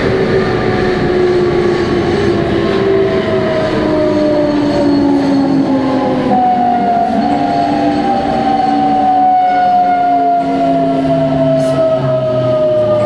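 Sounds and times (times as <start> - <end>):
traction motor whine: 0.0 - 13.0
train wheel and rail noise: 0.0 - 13.0.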